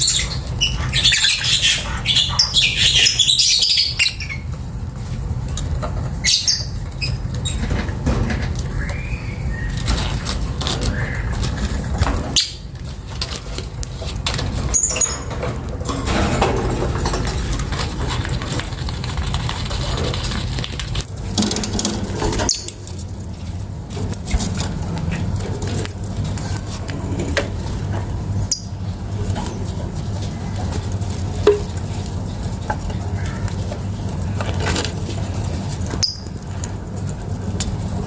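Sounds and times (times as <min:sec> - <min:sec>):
birds rustling and scratching: 0:00.0 - 0:38.0.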